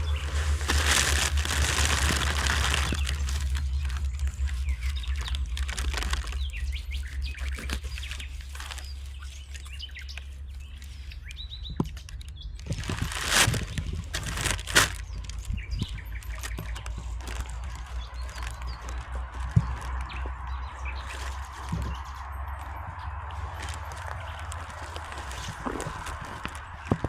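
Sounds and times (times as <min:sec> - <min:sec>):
rustling bursts: 0:00.0 - 0:09.7, 0:12.6 - 0:27.0
low rumble: 0:00.0 - 0:27.0
small birds chirping: 0:00.0 - 0:27.0.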